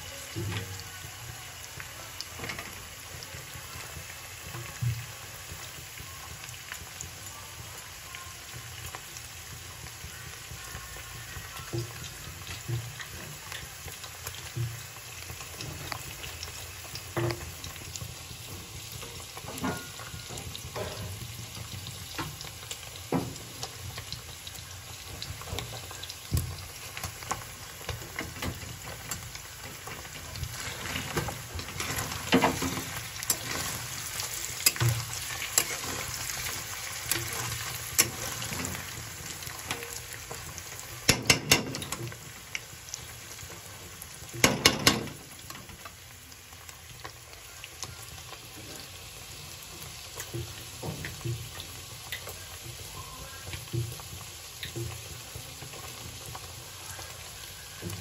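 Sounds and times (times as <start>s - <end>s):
cheese cubes sizzling in oil: 0.0s - 58.0s.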